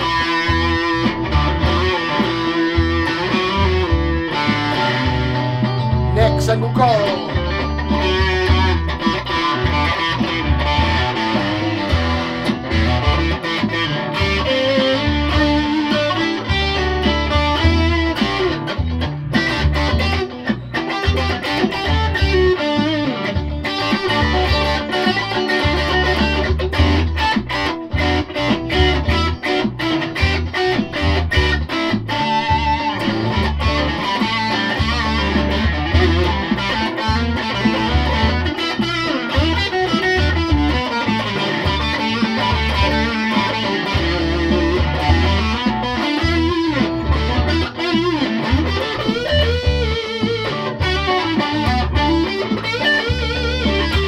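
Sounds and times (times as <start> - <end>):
electric guitar riff: 0.0 - 54.0.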